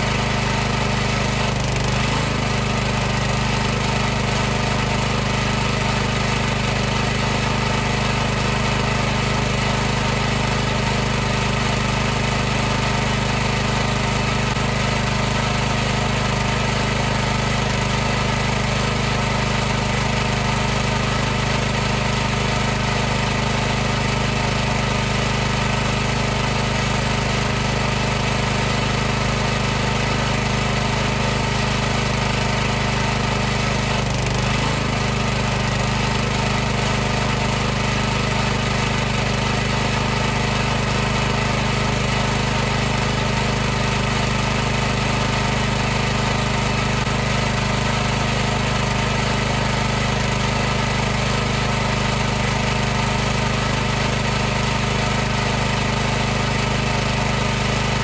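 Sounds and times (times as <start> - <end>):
pressure washer running: 0.0 - 58.0.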